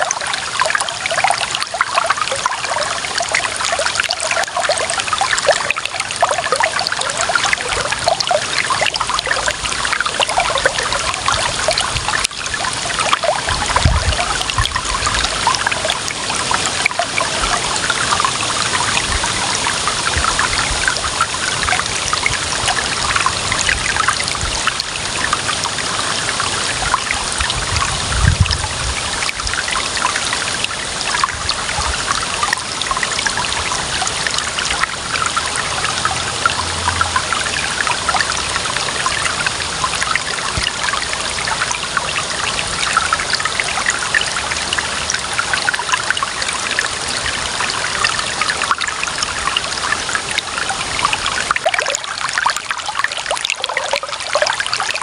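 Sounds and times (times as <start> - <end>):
water trickling over stones: 0.0 - 55.0.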